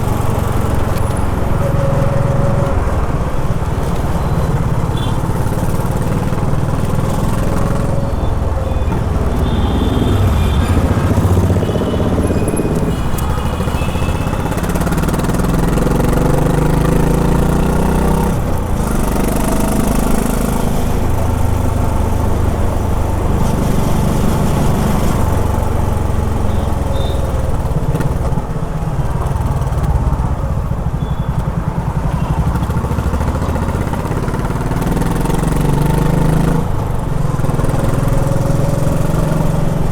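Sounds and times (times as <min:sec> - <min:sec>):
city traffic: 0:00.0 - 0:39.9
motorcycle engine revving: 0:00.0 - 0:39.9.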